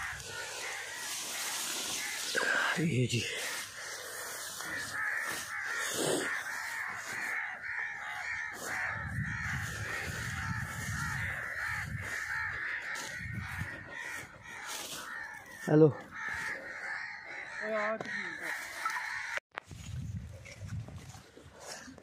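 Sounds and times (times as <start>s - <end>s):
birds calling in chorus: 0.0s - 19.4s.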